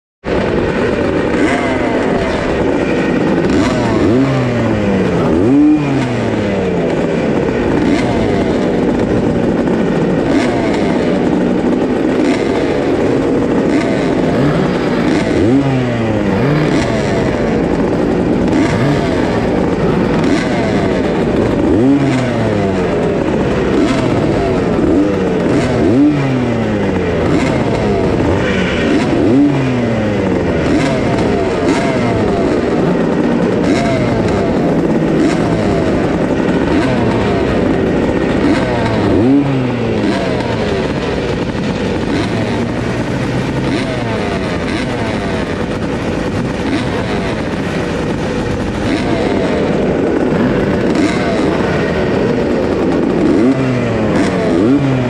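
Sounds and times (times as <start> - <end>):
motocross bikes idling: 0.2 - 55.0.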